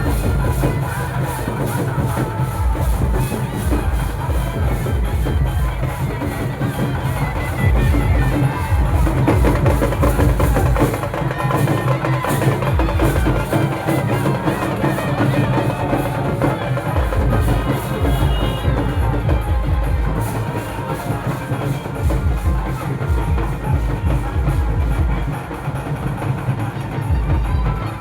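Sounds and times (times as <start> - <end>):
loud music with heavy drum beat: 0.0 - 28.0.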